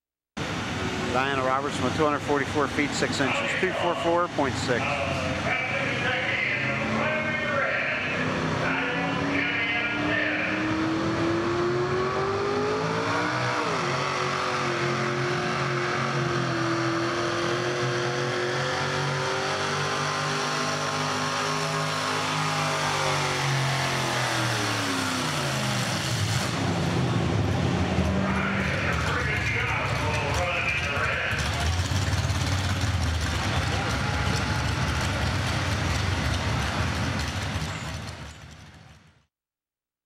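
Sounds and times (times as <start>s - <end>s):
truck engine at full throttle: 0.4s - 39.2s.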